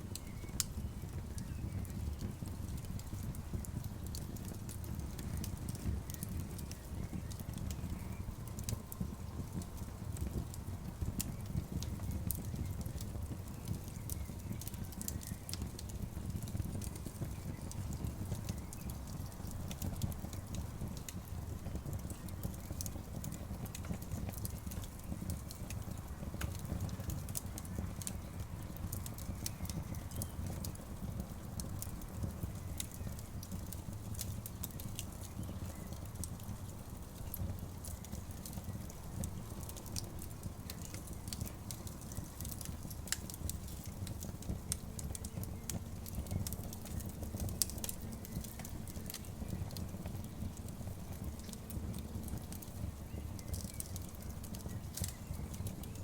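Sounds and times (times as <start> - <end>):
campfire crackling and popping: 0.0 - 56.0
low fire rumble: 0.0 - 56.0.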